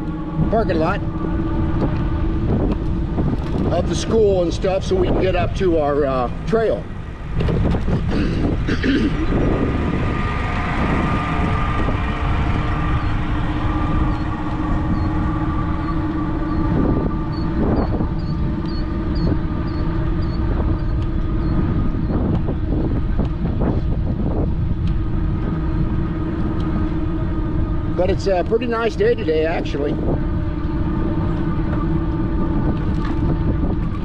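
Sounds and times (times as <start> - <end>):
bike tyre noise: 0.0 - 34.0
steady hum: 0.0 - 34.0
wind buffeting microphone: 0.0 - 34.0.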